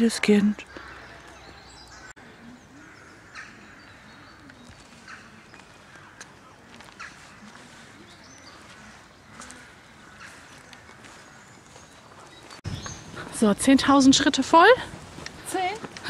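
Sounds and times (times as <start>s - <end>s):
birds chirping: 0.0s - 16.0s
distant voices: 0.0s - 16.0s.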